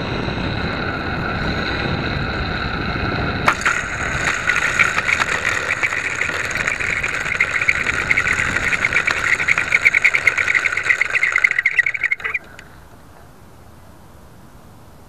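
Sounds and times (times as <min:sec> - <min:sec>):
rc plane electric motor whine: 0:00.0 - 0:12.7.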